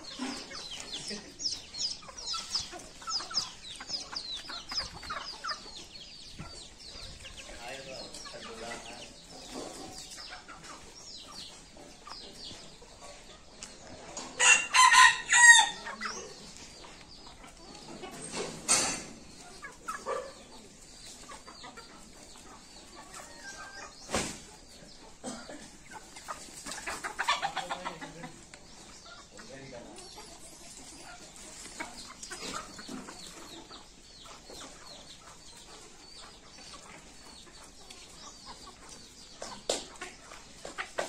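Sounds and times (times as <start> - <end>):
hens clucking: 0.0 - 41.0.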